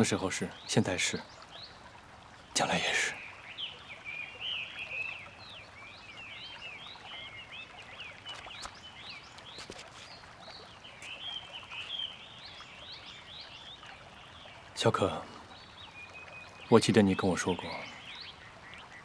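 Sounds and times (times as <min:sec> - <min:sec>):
faint outdoor hiss: 0:00.0 - 0:19.0
small birds chirping: 0:00.0 - 0:19.0.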